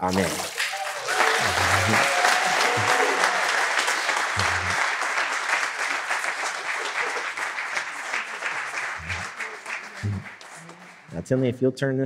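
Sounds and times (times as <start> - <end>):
congregation clapping: 0.0 - 11.3.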